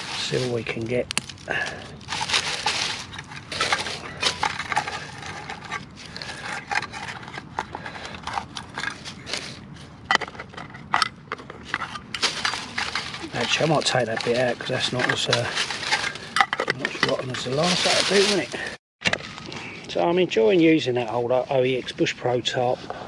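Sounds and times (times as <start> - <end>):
rotten wood crunching: 0.0 - 23.0.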